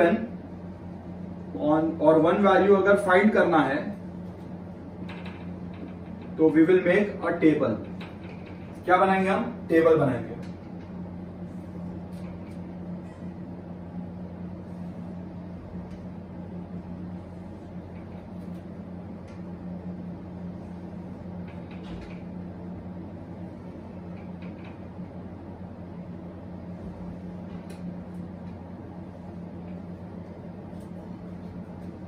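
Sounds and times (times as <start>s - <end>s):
low room hum: 0.0s - 32.0s.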